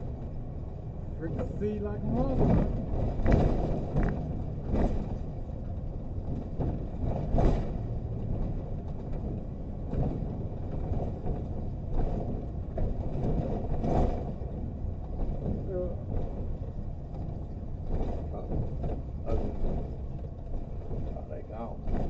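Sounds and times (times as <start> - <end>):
car engine rumble inside cabin: 0.0 - 22.0.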